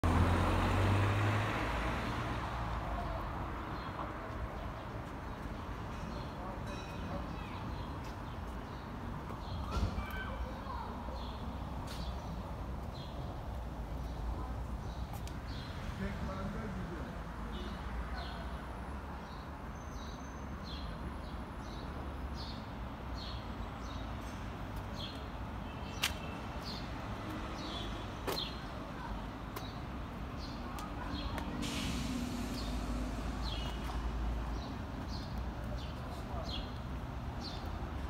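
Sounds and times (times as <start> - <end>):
low street rumble: 0.0 - 38.0.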